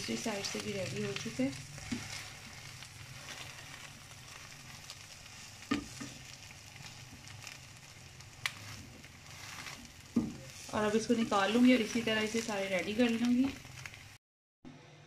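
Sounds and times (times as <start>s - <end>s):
omelette sizzling in a frying pan: 0.0s - 14.2s.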